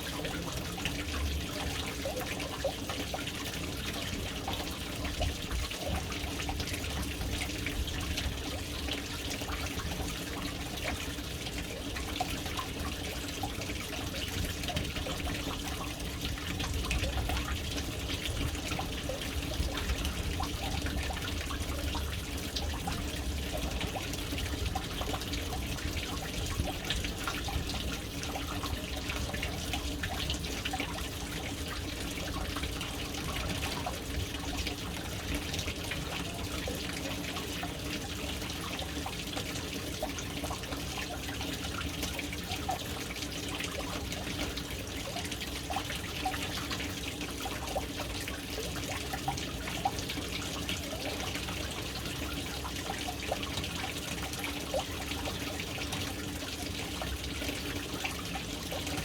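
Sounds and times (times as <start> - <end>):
water drips and trickles: 0.0 - 59.0
water pouring into a tank: 0.0 - 59.0.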